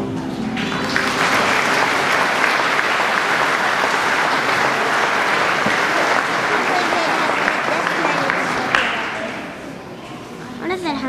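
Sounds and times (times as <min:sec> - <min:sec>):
audience applause: 0:00.4 - 0:09.7.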